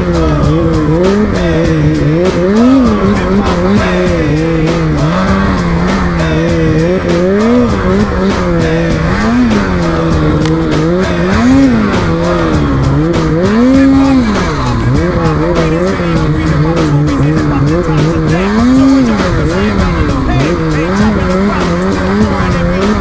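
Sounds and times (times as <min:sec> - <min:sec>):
snowmobile engine revving: 0:00.0 - 0:23.0.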